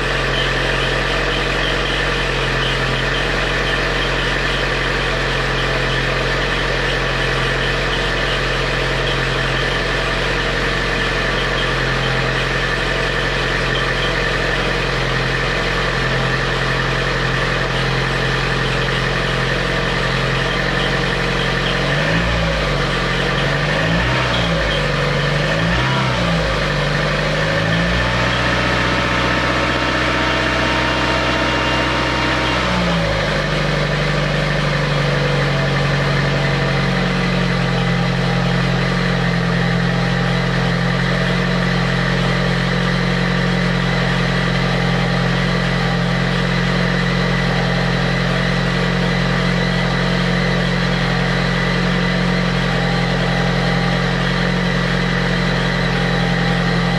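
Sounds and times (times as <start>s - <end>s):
car engine revving and idling: 0.0s - 56.9s
steady engine whistle: 0.0s - 56.9s.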